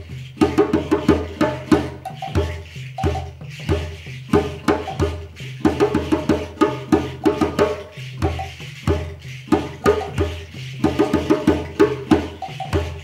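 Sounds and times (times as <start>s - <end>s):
djembe hand strokes: 0.0s - 13.0s
shekere rattling: 0.0s - 13.0s.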